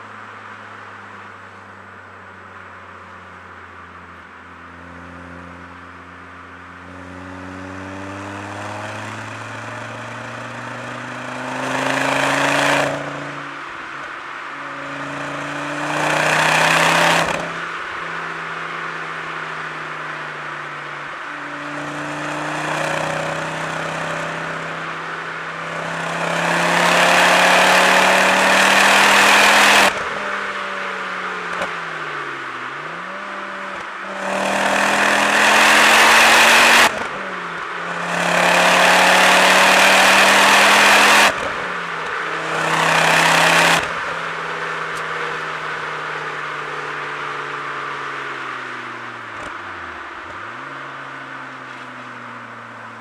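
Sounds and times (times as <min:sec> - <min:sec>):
car engine accelerating through gears: 0:06.7 - 0:53.0.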